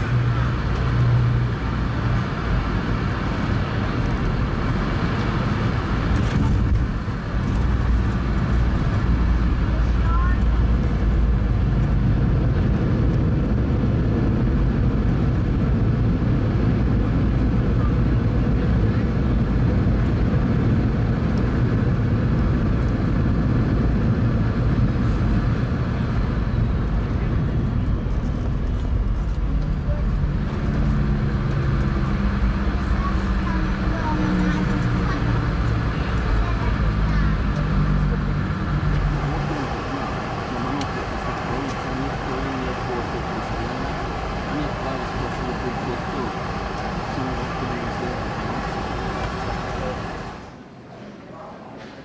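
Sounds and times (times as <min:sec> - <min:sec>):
airliner cabin rumble: 0:00.0 - 0:50.9
aircraft engine and rolling noise: 0:00.0 - 0:52.0
low hum: 0:03.6 - 0:50.8.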